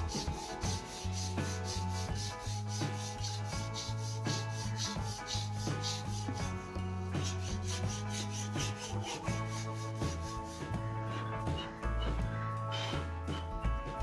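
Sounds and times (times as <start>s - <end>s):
sandpaper rubbing on wood: 0.0s - 12.2s.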